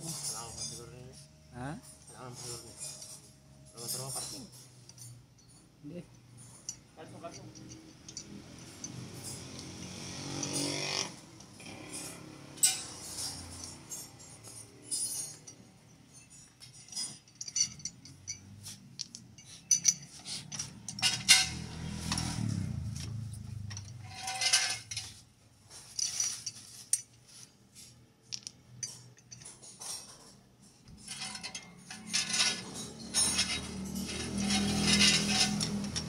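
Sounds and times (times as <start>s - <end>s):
metal tools clinking: 0.0s - 36.0s.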